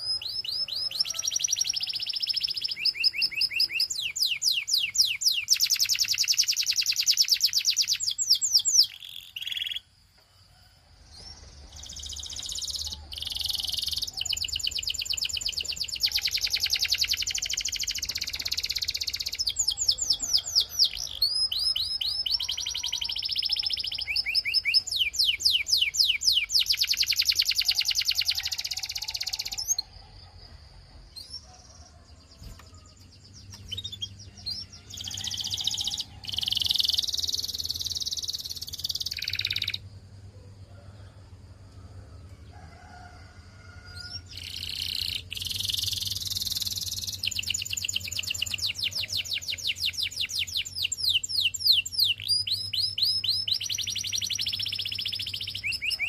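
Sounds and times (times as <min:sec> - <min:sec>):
canary singing trills: 0:00.0 - 0:09.9, 0:11.1 - 0:30.3, 0:30.9 - 0:40.0, 0:43.8 - 0:56.0.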